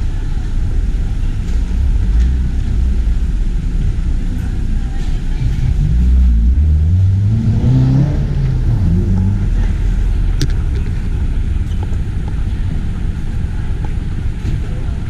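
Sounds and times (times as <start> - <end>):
vehicle engine rising in pitch: 0.0 - 13.7
low rumble of street traffic: 0.0 - 15.0.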